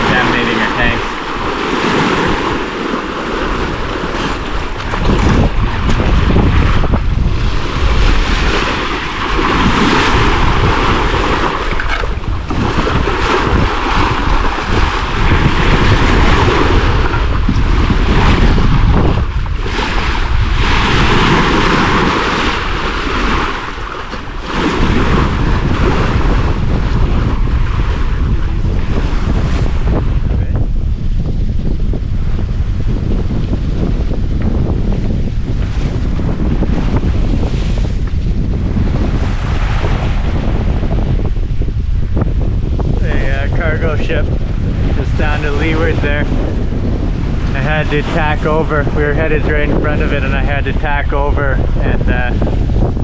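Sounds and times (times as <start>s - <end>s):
ocean waves rushing: 0.0s - 31.0s, 33.6s - 53.0s
wind buffeting microphone: 0.0s - 53.0s.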